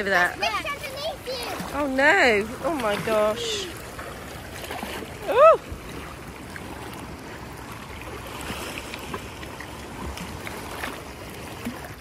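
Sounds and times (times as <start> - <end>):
small water splashes: 0.0 - 12.0
water lapping at shoreline: 0.0 - 12.0.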